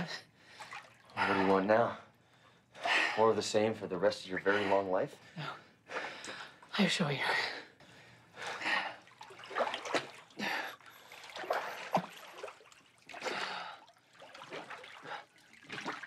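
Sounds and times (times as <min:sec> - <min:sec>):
water splashing from swimming: 0:00.0 - 0:07.0, 0:08.3 - 0:16.0.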